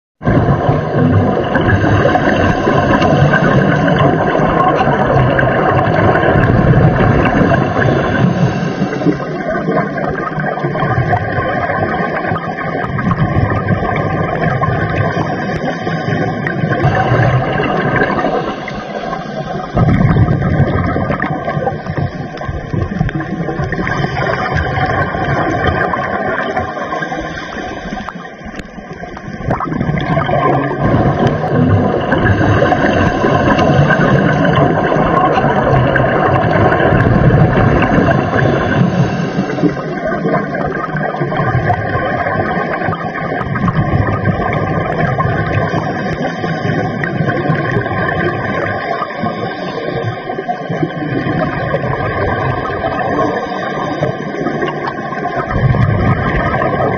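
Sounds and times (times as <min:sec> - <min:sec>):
underwater rushing water: 0:00.2 - 0:56.9.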